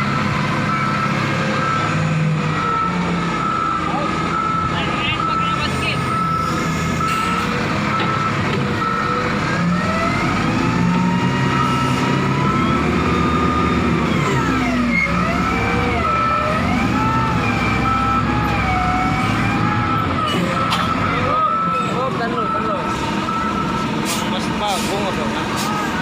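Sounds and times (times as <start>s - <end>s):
diesel engines revving: 0.0s - 26.0s.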